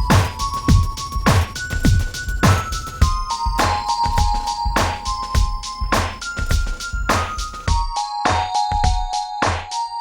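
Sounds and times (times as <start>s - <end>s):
steady drum beat: 0.0s - 9.7s.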